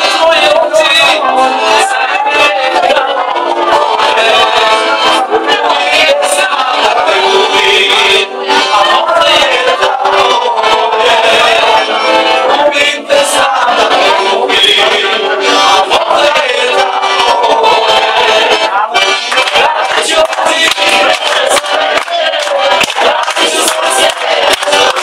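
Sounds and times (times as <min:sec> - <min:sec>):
group of people singing: 0:00.0 - 0:25.0
man singing: 0:00.0 - 0:25.0.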